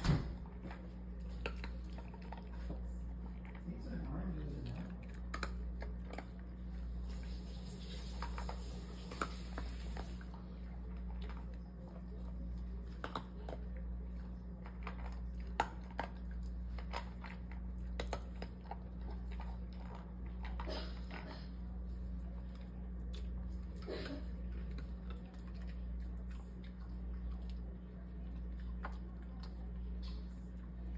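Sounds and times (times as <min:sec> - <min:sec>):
steady low hum: 0:00.0 - 0:30.9
dog crunching dry kibble: 0:00.4 - 0:07.4, 0:08.0 - 0:30.9.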